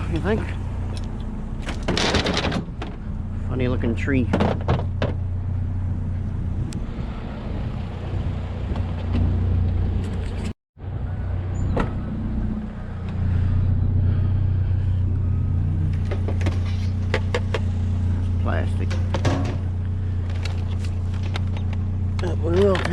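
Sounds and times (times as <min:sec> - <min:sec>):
road noise: 0:00.0 - 0:22.9
vehicle engine drone: 0:00.0 - 0:22.9.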